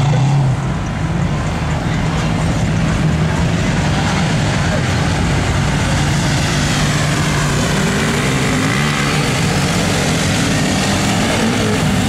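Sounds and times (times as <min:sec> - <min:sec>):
engine revving: 0:00.0 - 0:12.0
off-road engines running: 0:00.0 - 0:12.0.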